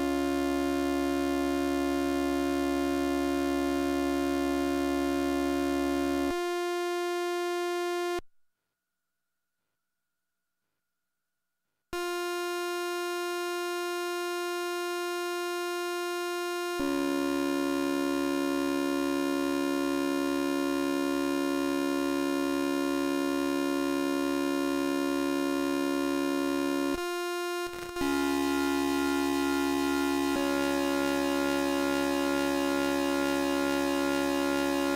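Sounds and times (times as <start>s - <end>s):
synthesizer buzzy drone: 0.0s - 8.2s, 12.0s - 34.9s.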